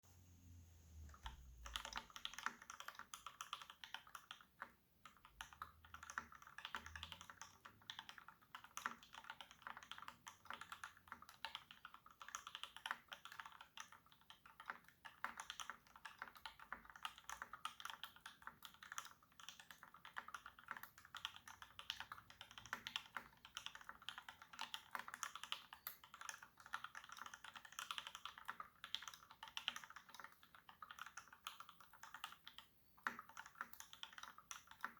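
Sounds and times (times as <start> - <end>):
fast typing on mechanical keyboard: 1.1 - 34.9.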